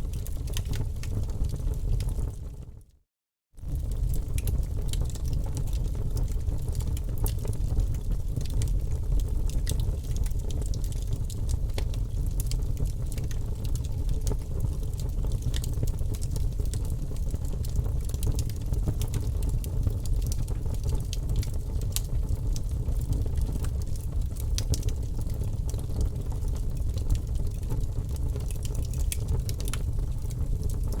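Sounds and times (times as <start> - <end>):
burning wood crackles and pops: 0.0 - 2.6, 3.6 - 31.0
fire flames rumbling: 0.0 - 2.8, 3.6 - 31.0.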